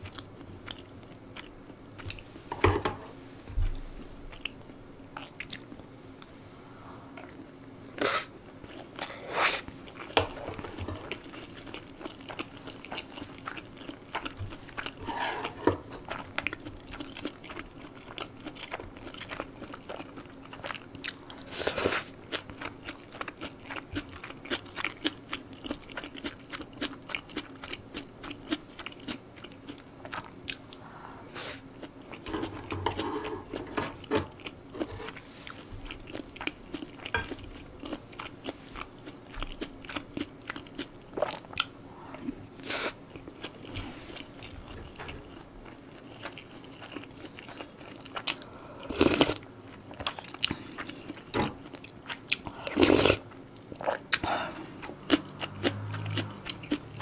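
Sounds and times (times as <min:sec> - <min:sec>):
chewing and crunching food: 0:00.0 - 0:02.4, 0:03.7 - 0:07.6, 0:08.5 - 0:30.8, 0:31.6 - 0:57.0.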